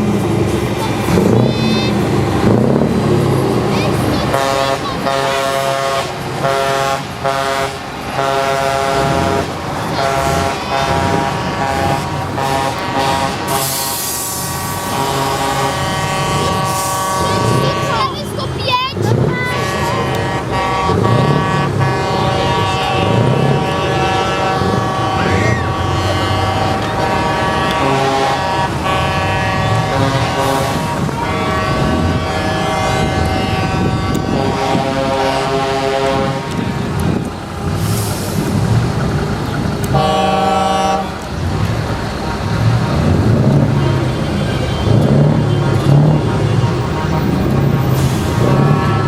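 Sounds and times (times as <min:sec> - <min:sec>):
heavy truck engine rumble: 0:00.0 - 0:49.0
truck air horns chord: 0:00.9 - 0:38.6, 0:39.8 - 0:49.0.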